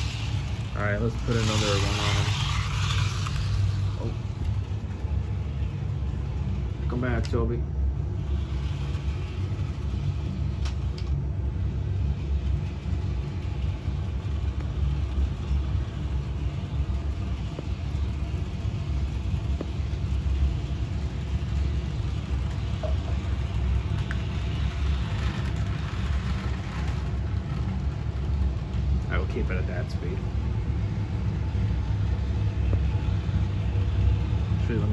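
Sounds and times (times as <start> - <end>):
model train motor rumble: 0.0 - 34.9.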